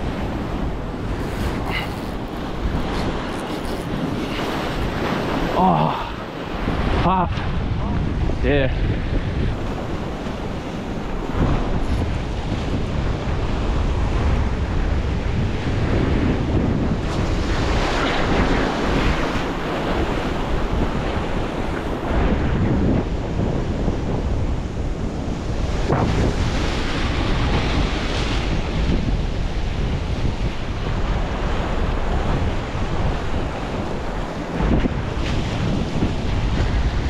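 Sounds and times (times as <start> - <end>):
ocean surf breaking over rocks: 0.0 - 37.0
wind buffeting microphone: 0.0 - 37.0.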